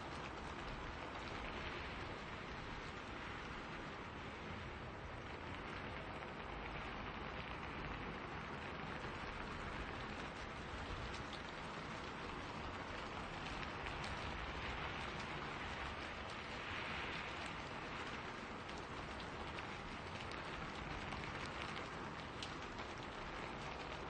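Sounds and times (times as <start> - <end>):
faint drips: 0.0 - 24.0
steady rain hiss: 0.0 - 24.0
wind in trees: 0.0 - 24.0.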